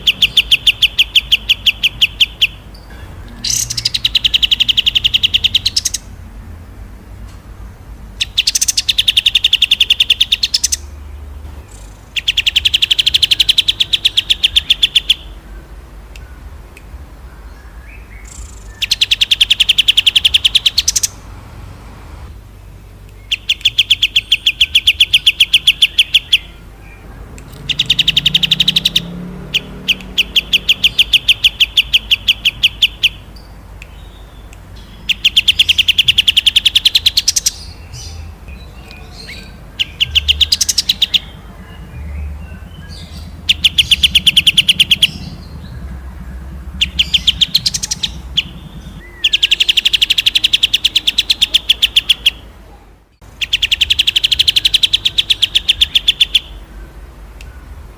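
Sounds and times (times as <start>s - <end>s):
songbird rattling trills: 0.0s - 6.3s, 8.1s - 16.5s, 17.1s - 21.4s, 22.4s - 52.5s, 53.4s - 56.6s
bird chirps: 0.0s - 6.5s, 7.2s - 57.9s.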